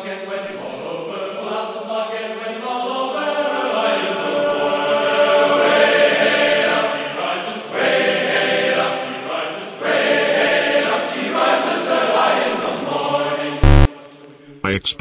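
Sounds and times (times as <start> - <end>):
male choir singing a sea shanty: 0.0 - 14.5.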